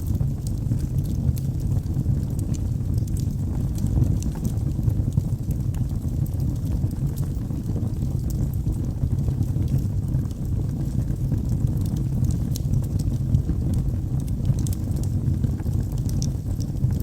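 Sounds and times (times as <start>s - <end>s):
logs burning in fireplace: 0.0s - 17.0s.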